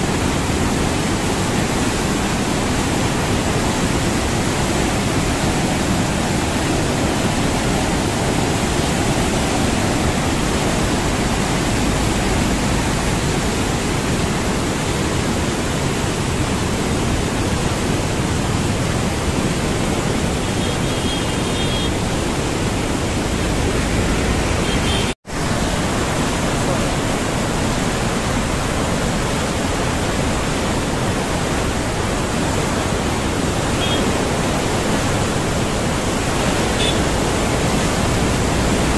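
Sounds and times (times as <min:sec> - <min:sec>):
churning water rushing: 0:00.0 - 0:38.9.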